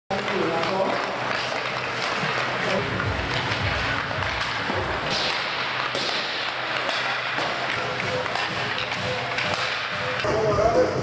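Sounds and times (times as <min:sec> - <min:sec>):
hockey sticks and puck clacking: 0:00.1 - 0:10.7
skates scraping ice: 0:00.1 - 0:11.0.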